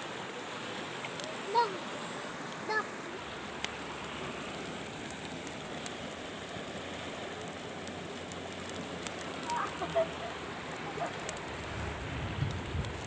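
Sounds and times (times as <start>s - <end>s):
river water rushing: 0.0s - 13.0s
small fire snapping: 1.0s - 1.7s, 2.4s - 13.0s.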